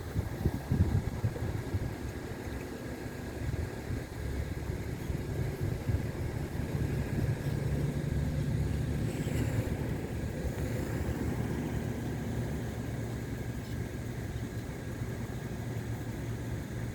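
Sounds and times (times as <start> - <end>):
distant jet engines rumbling: 0.0 - 16.2.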